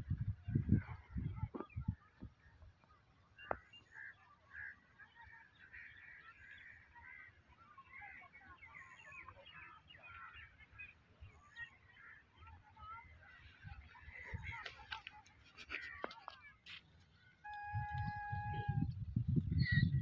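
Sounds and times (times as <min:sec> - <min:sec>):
bird calls chattering: 0:01.4 - 0:17.4.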